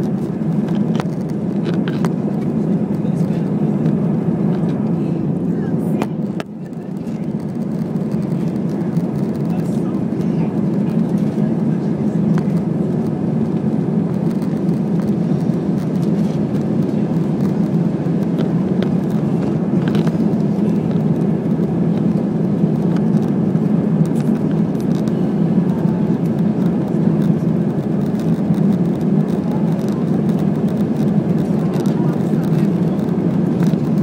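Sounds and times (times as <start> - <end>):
jet engine roar in cabin: 0.0 - 34.0.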